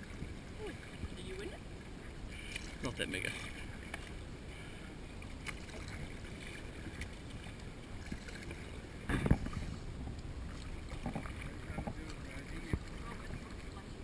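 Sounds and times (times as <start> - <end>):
water washing around raft: 0.0 - 14.0.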